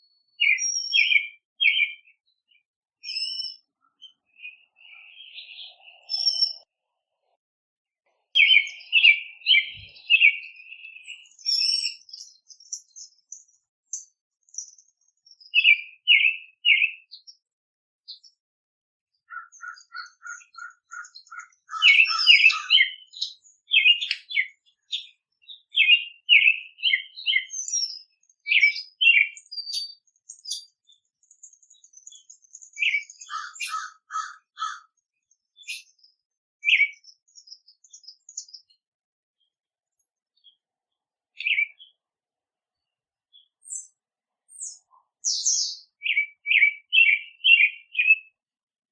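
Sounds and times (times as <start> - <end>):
songbirds chirping: 0.0 - 18.4, 19.1 - 48.6.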